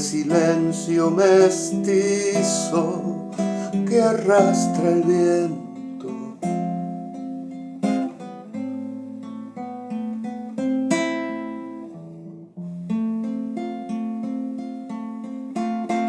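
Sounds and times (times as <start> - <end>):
solo acoustic guitar: 0.0 - 16.0.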